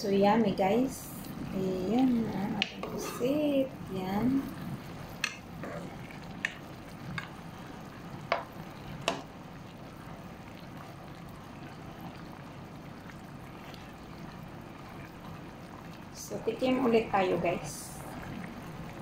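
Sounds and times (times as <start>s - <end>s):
sauce bubbling in a pan: 0.1s - 19.0s.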